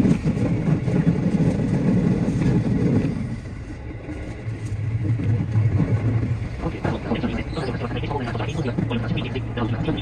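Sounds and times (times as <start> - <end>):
electric train running rumble: 0.0 - 10.0.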